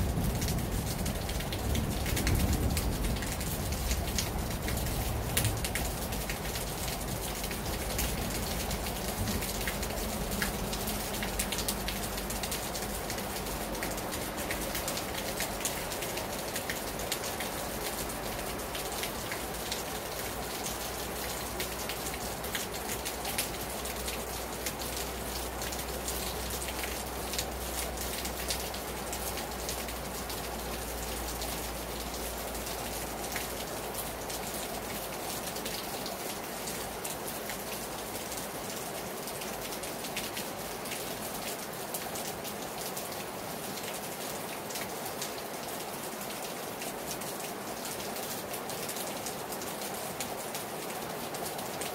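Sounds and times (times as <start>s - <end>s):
heavy rain on a terrace: 0.0s - 51.9s.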